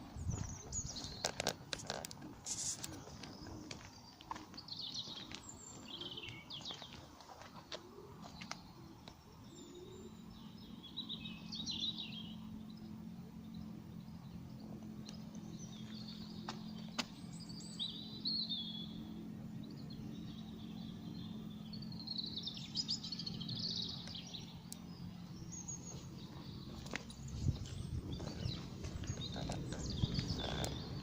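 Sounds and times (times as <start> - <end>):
small birds chirping: 0.0 - 31.0
steady low hum: 0.0 - 31.0.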